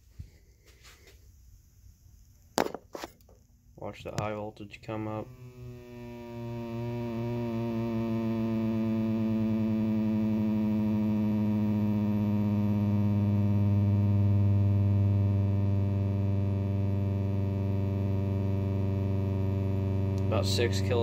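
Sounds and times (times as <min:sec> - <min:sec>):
television low buzz: 0:03.8 - 0:21.0.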